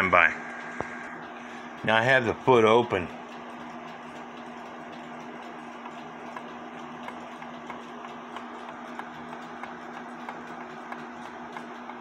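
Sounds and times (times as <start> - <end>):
steady low hum: 0.0 - 12.0
pendulum clock ticking: 1.7 - 12.0.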